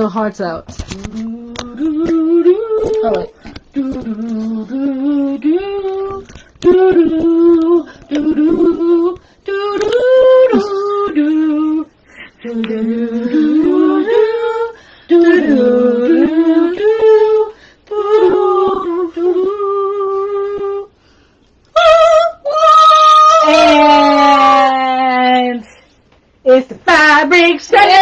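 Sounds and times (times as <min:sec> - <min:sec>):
women singing slow tune: 0:00.9 - 0:21.0, 0:21.6 - 0:25.8, 0:26.4 - 0:28.0.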